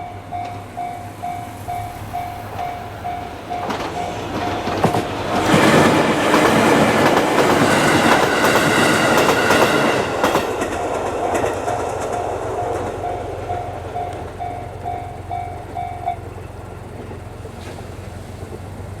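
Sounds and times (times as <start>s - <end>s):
crossing warning bell dinging: 0.0s - 17.6s
train wheels clicking over rails: 0.0s - 19.0s.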